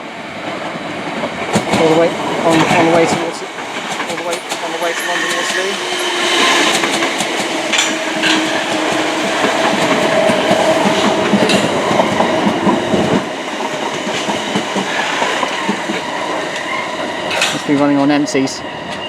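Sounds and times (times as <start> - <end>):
train low rumble: 0.0 - 19.0
train wheels clattering over rail joints: 0.6 - 17.9.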